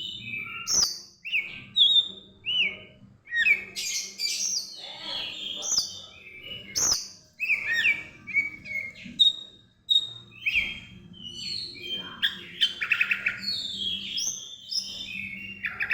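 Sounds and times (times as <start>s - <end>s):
bird singing whistled notes: 0.0s - 15.9s.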